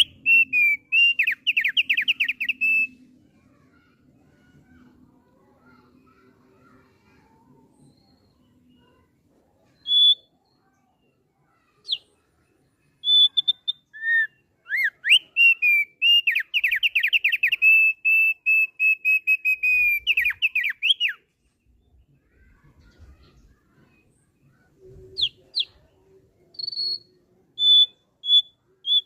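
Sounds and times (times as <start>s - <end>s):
bird singing whistled notes and trill: 0.0s - 29.0s.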